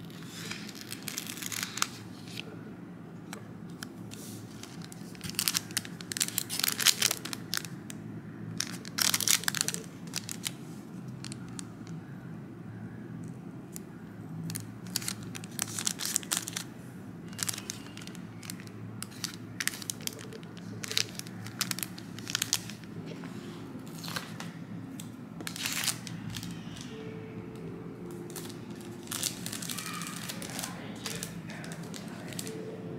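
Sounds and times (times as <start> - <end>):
plastic packaging crinkling: 0.0 - 2.4, 3.3 - 11.9, 14.5 - 23.2, 23.8 - 27.0, 28.2 - 32.7
low steady hum: 0.0 - 32.9.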